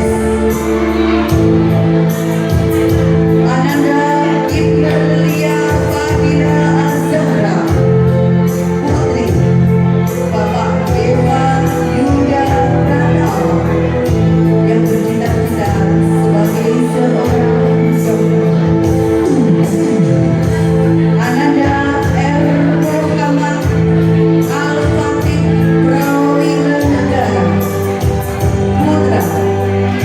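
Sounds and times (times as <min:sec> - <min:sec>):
loud music with singing: 0:00.0 - 0:30.0.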